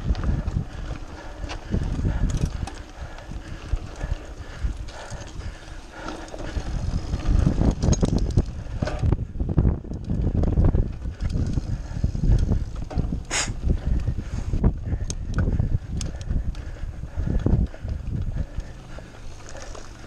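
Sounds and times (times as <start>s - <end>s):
bike rattling over bumpy trail: 0.0s - 20.0s
wind buffeting microphone: 0.0s - 20.0s.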